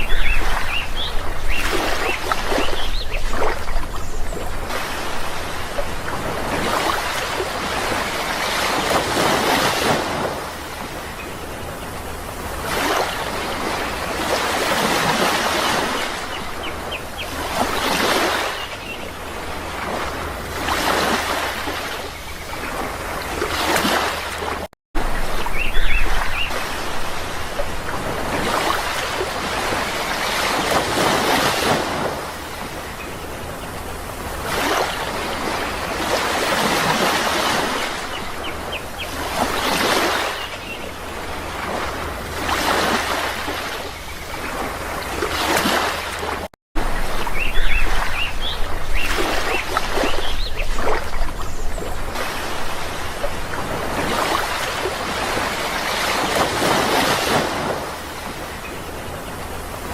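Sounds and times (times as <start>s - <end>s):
sea waves breaking ashore: 0.0s - 59.9s.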